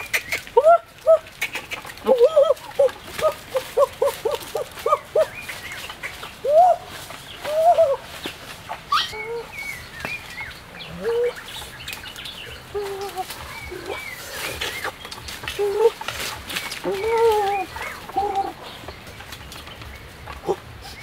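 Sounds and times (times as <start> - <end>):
twigs and leaves crackling underfoot: 0.0 - 21.0.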